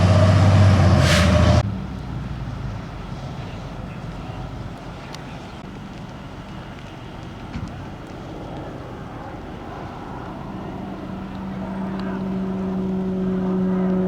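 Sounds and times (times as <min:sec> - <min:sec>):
outdoor background noise: 0:00.0 - 0:14.0
vehicle engine drone: 0:00.0 - 0:14.0.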